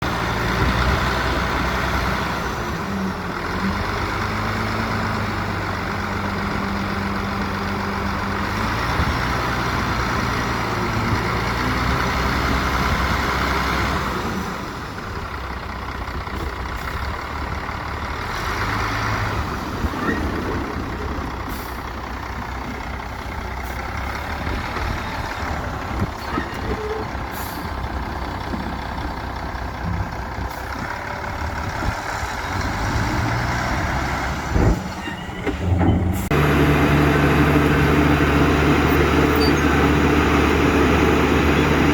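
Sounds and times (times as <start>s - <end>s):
heavy diesel engines running: 0.0s - 41.9s.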